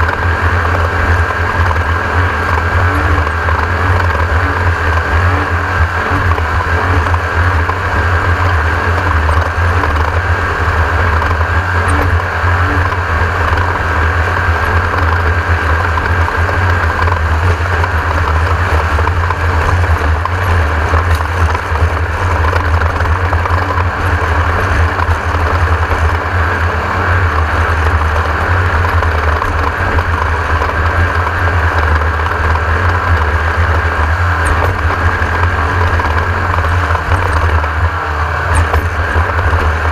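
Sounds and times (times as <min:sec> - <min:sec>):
constant rushing noise: 0:00.0 - 0:39.9
race car engine droning: 0:00.0 - 0:39.9.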